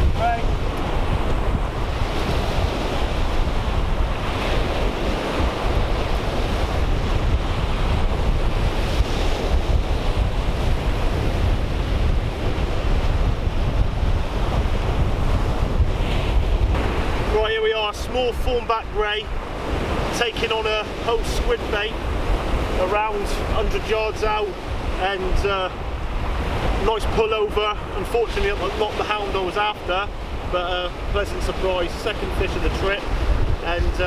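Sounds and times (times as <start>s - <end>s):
small waves breaking on shore: 0.0s - 34.0s
wind buffeting microphone: 0.0s - 34.0s.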